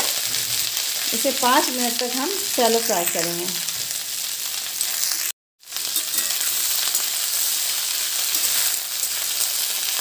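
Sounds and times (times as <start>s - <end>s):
okra sizzling in oil: 0.0s - 10.0s.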